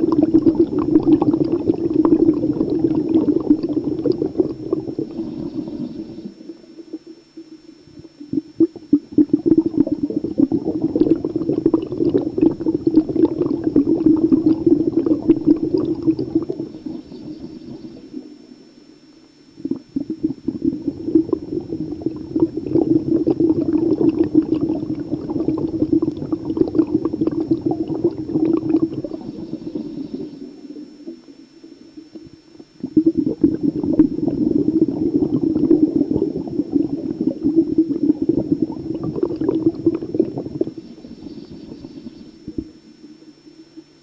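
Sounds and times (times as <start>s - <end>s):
underwater air bubbling: 0.0s - 18.7s, 19.6s - 43.6s.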